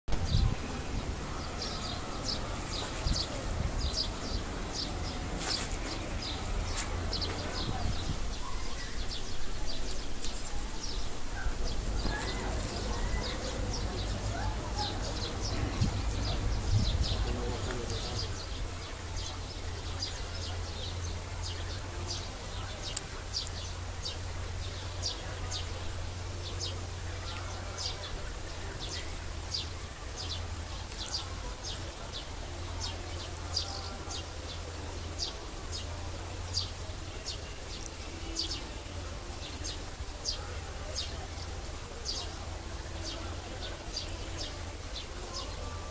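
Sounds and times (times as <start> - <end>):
small birds chirping: 0.1 - 45.9.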